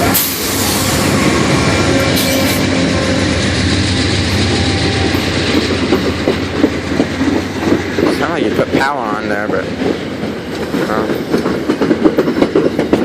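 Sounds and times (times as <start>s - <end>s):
passenger train rumbling past: 0.0s - 13.0s
steel wheels clattering on rails: 0.0s - 13.0s.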